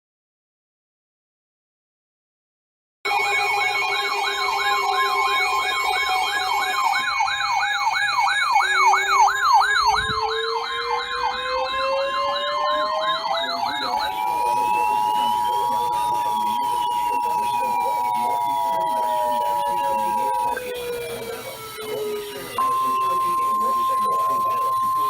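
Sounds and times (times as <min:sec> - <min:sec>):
electronic siren yelp: 0:03.1 - 0:25.0
siren rising wail: 0:03.1 - 0:25.0
steady two-tone alarm: 0:03.1 - 0:25.0.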